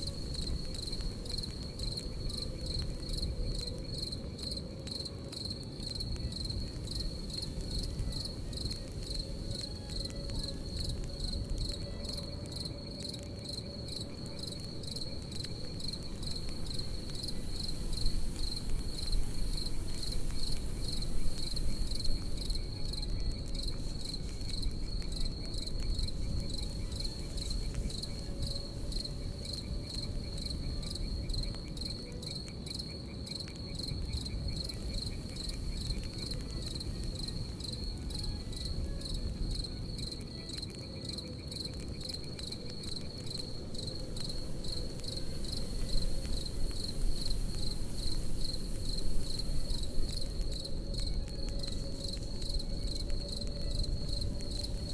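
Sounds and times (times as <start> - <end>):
campfire crackling: 0.0 - 54.9
crickets chirping: 0.0 - 54.9.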